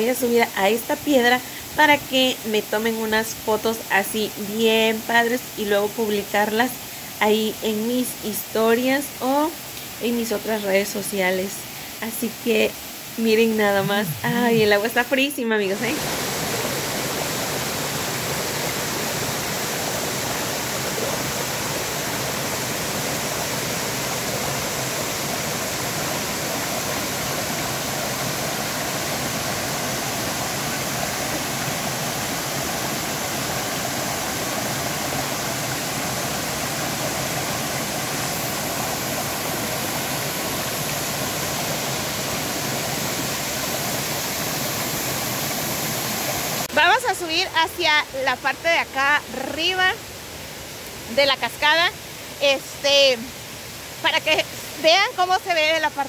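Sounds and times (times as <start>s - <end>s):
water rushing over rocks: 9.5s - 56.0s.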